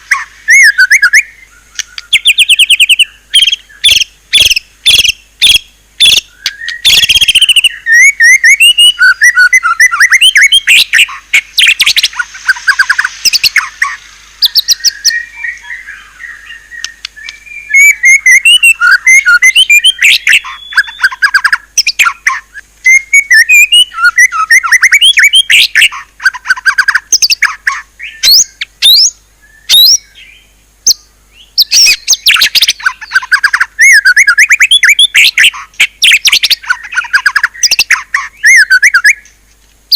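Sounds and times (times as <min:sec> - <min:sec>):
songbird whistles and trills: 0:00.0 - 0:39.4.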